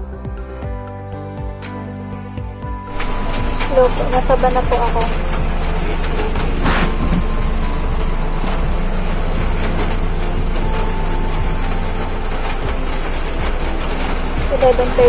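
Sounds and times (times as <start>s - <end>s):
van engine rumbling: 2.9s - 15.0s.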